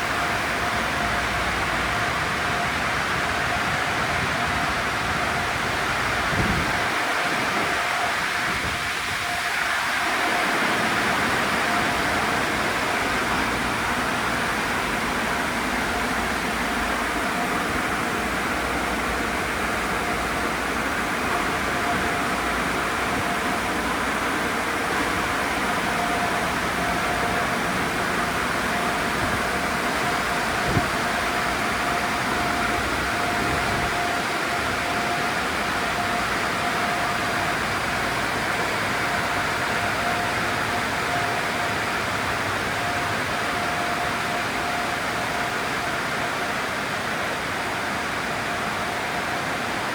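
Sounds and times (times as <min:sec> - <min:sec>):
car wash machinery rushing: 0:00.0 - 0:49.9
faint steady whine: 0:00.0 - 0:49.9.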